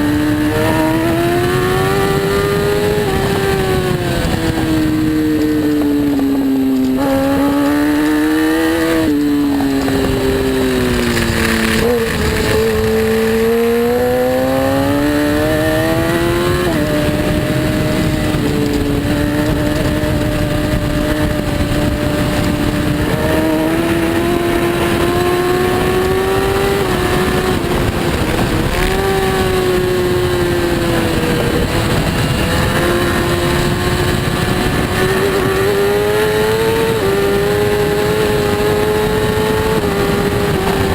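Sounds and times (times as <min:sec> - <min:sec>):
racing motorcycle engine revving: 0:00.0 - 0:40.9
steady rushing noise: 0:00.0 - 0:40.9.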